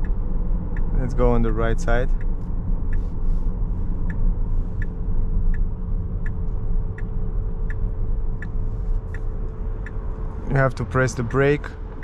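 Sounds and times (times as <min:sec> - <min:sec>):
turn signal ticking: 0:00.0 - 0:12.0.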